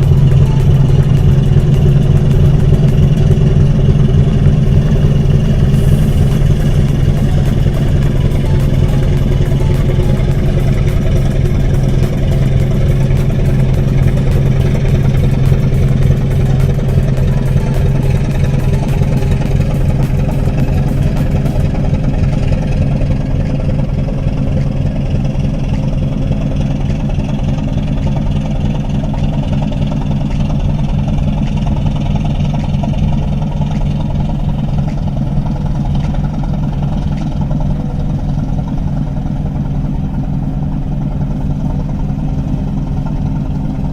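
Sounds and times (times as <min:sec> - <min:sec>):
boat engine droning: 0:00.0 - 0:43.9.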